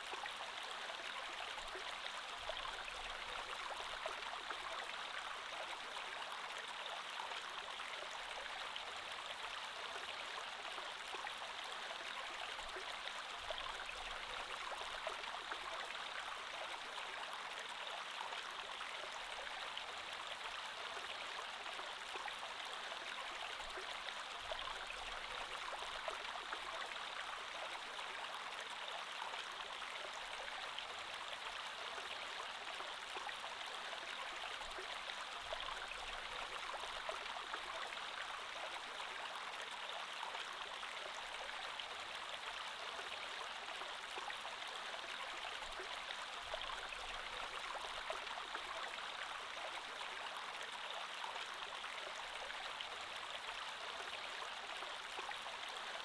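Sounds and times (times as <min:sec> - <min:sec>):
creek water flowing over stones: 0:00.0 - 0:56.0.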